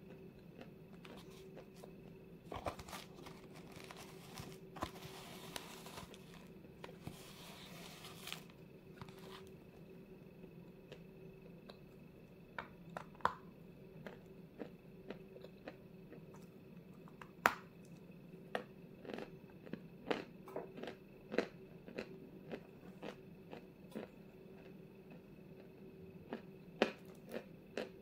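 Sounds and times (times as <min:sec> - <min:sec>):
crunchy food being chewed: 0:00.0 - 0:09.8, 0:14.0 - 0:28.0
faint steady hum: 0:00.0 - 0:28.0.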